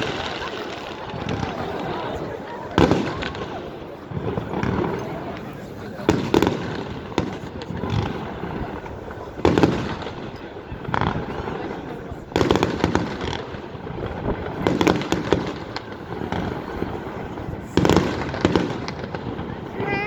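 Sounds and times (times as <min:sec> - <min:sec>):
fireworks booming: 0:00.0 - 0:20.0
fireworks crackle: 0:00.0 - 0:20.0.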